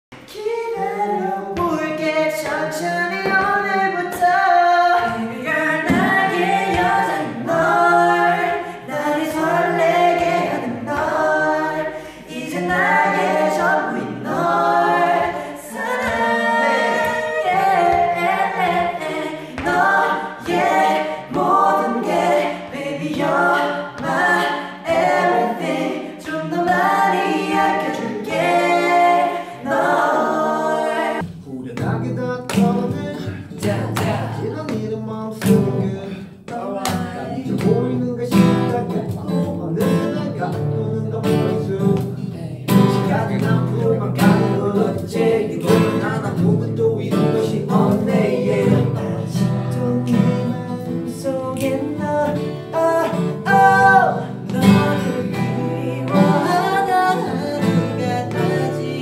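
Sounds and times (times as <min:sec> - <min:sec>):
group singing a cappella: 0:00.2 - 0:59.0.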